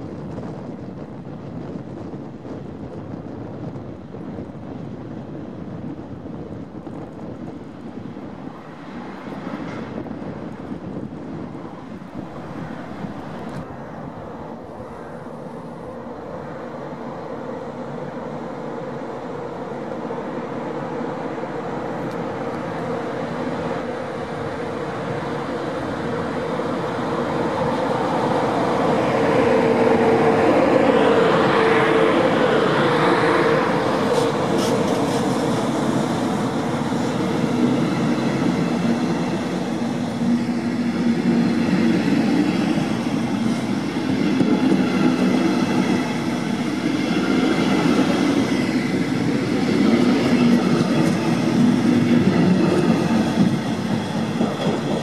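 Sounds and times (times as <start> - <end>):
electric locomotive passing: 0.0 - 55.0
locomotive whine: 0.0 - 55.0
train coaches rolling past: 0.0 - 55.0.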